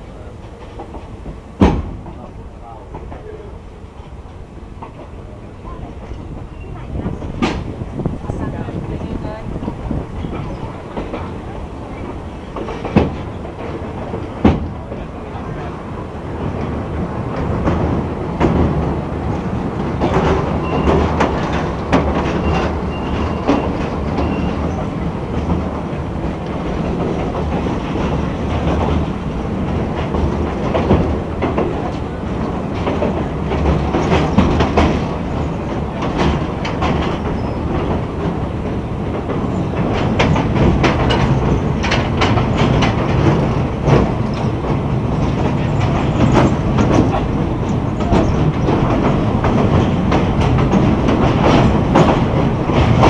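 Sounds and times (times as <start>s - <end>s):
train rumble: 0.0s - 53.0s
wheels clacking over rail joints: 0.0s - 53.0s.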